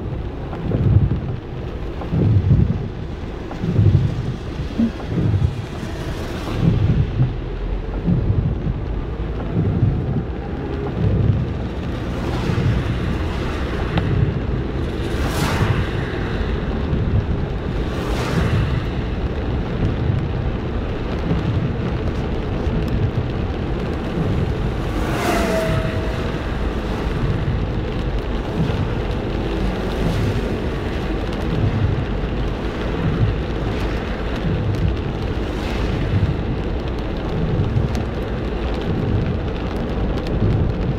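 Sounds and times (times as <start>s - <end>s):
heavy rain falling: 0.0s - 40.9s
low rumbling: 0.0s - 40.9s.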